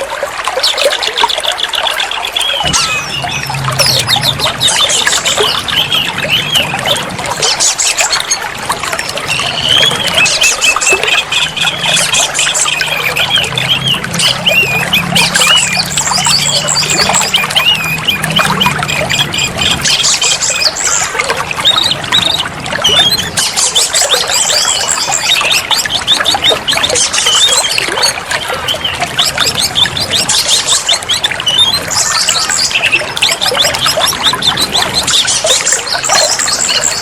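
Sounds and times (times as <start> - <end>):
songbird singing trills: 0.6 - 37.0.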